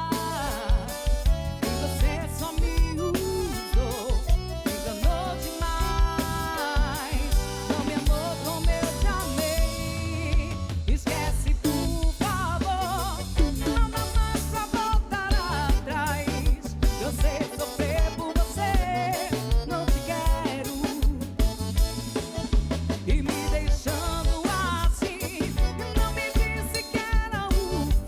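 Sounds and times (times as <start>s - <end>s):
drum kit beat: 0.0s - 28.0s.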